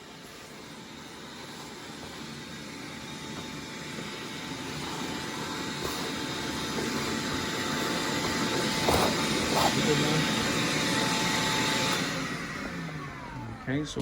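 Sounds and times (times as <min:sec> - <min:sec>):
shop vacuum running: 0:00.0 - 0:14.0.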